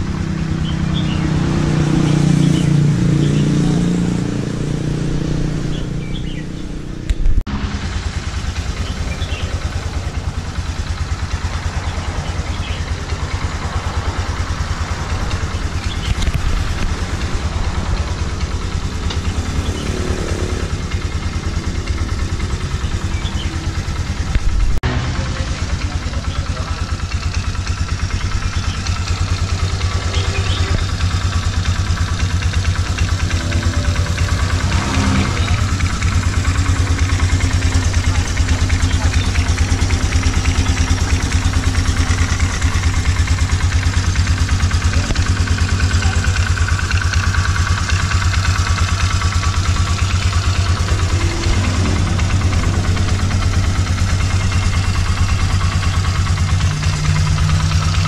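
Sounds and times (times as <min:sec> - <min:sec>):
atv engine idling: 0:00.0 - 0:58.0.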